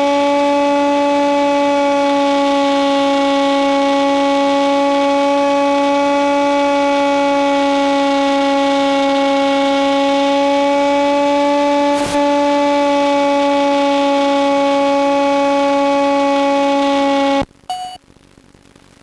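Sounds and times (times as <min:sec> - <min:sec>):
electric motor and propeller drone: 0:00.0 - 0:19.0.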